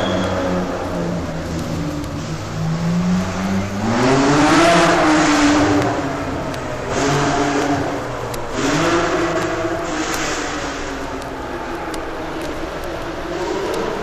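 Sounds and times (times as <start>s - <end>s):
racing cars accelerating: 0.0s - 14.0s.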